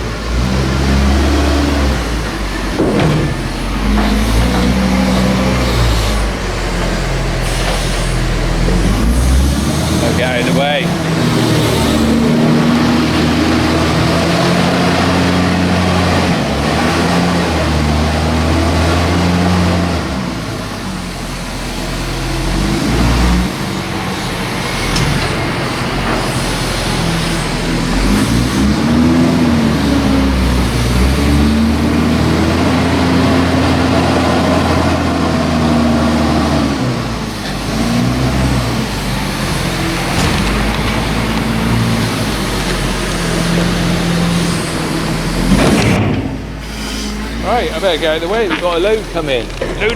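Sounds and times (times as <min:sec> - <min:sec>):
tractor diesel engine revving: 0:00.0 - 0:49.9.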